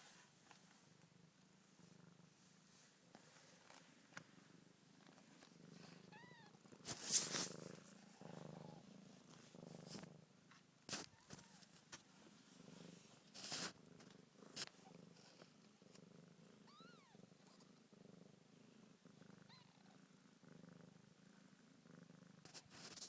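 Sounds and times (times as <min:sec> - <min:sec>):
cat purring: 0:00.6 - 0:23.0.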